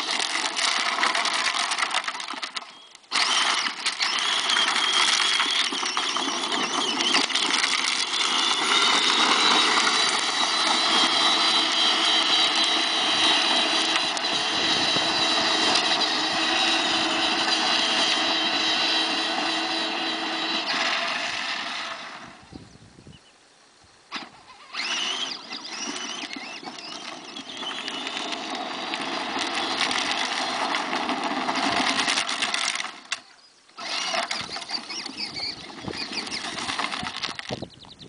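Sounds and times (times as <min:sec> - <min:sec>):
toy car electric motors whining: 0:00.0 - 0:22.5, 0:24.1 - 0:38.0.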